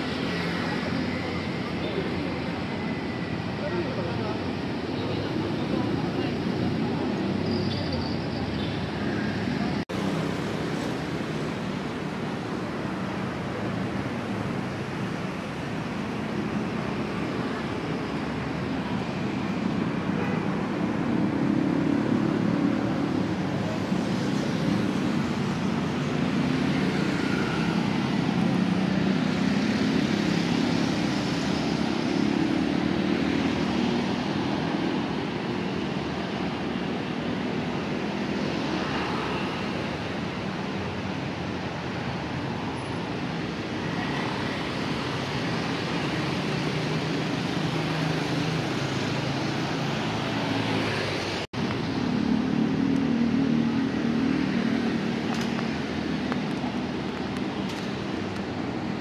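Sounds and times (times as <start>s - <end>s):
city street traffic: 0.0s - 59.0s.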